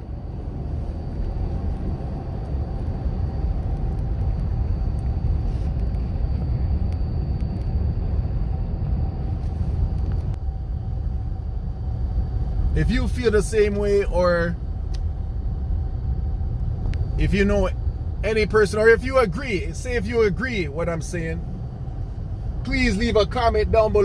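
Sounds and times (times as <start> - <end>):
faint high whine: 0.0 - 24.0
low rumble: 0.0 - 24.0.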